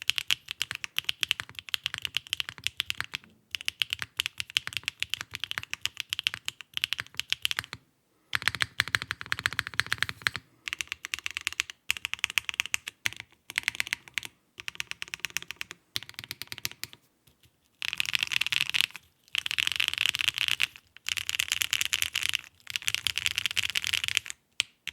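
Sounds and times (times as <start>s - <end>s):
mechanical keyboard typing: 0.0s - 17.0s, 17.8s - 24.9s.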